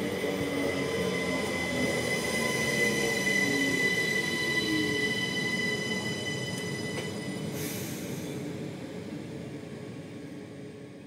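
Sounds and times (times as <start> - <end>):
high steady train whine: 0.0 - 11.0
train wheels rumbling on rails: 0.0 - 11.0.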